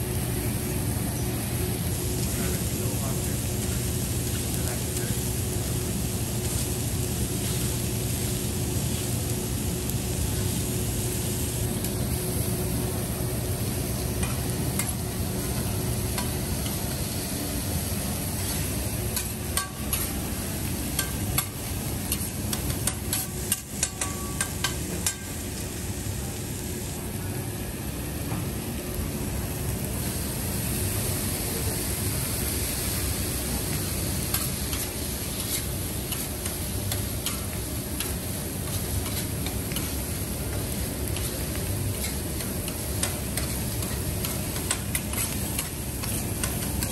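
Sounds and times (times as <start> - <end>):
food sizzling on a griddle: 0.0 - 46.9.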